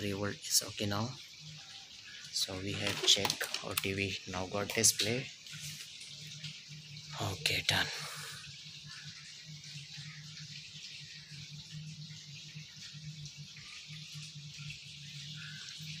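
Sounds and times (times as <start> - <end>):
constant hiss: 0.0 - 16.0.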